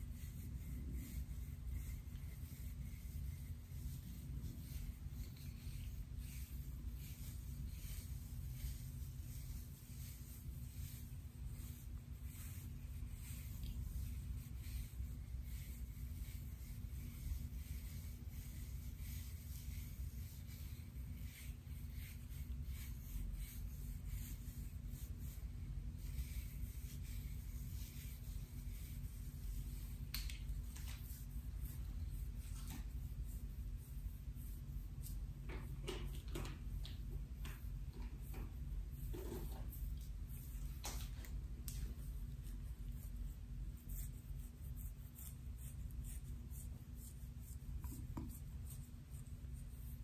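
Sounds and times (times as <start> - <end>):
scratching through short hair: 0.0 - 50.0.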